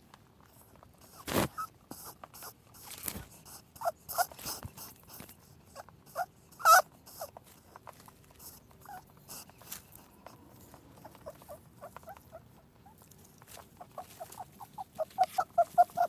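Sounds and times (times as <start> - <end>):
rabbits rustling and nibbling: 0.0 - 16.0
rabbit squeaks: 0.6 - 16.0.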